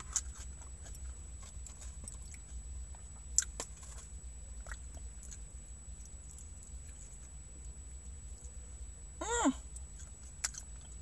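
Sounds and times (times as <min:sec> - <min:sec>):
chewing crisp lettuce: 0:00.0 - 0:08.6, 0:09.6 - 0:11.0
low steady hum: 0:00.0 - 0:11.0.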